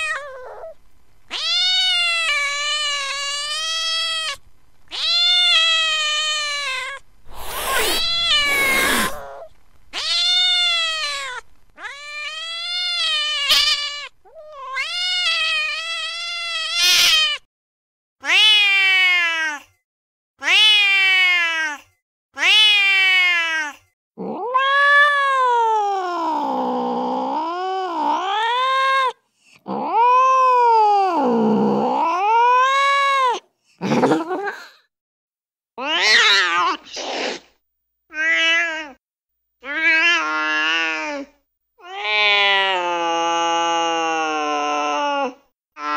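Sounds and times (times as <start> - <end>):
cats yowling and caterwauling: 0.0 - 17.5, 18.2 - 19.7, 20.4 - 21.8, 22.4 - 34.2, 35.8 - 37.0, 38.1 - 39.0, 39.6 - 45.9.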